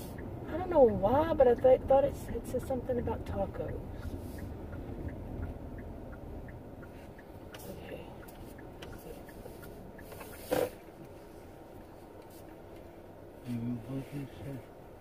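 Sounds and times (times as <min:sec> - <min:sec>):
car engine and road rumble: 0:00.0 - 0:15.0
faint regular ticking: 0:00.0 - 0:15.0.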